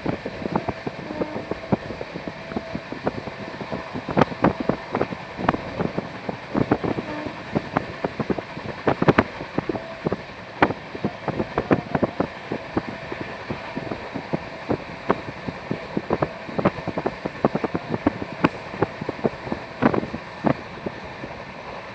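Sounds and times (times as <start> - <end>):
clacks and rattles of train: 0.0 - 21.9
train running at speed: 0.0 - 21.9.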